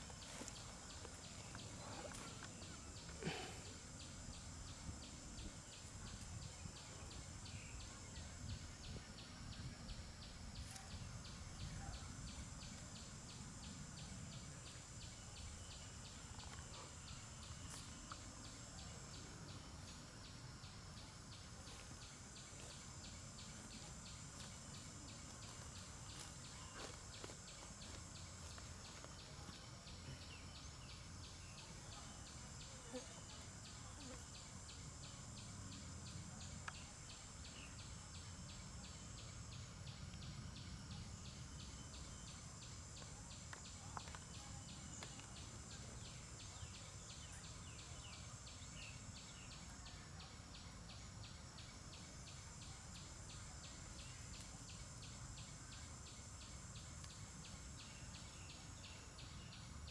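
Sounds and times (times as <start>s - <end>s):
high insect buzz: 0.0s - 59.9s
insect pulsing trill: 0.0s - 59.9s.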